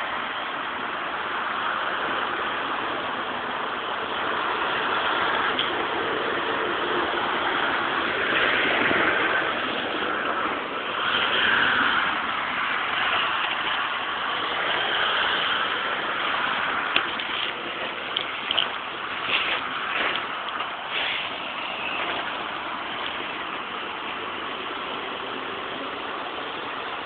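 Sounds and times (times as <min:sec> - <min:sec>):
dense hissing noise: 0:00.0 - 0:27.0
vehicle engines running: 0:00.0 - 0:27.0.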